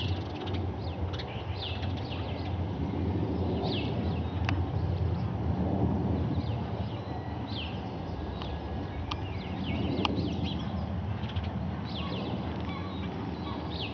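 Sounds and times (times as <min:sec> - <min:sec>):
small birds chirping: 0:00.0 - 0:05.4, 0:06.1 - 0:13.9
distant jet engine rumble: 0:00.0 - 0:13.9
faint engine howl: 0:00.0 - 0:13.9.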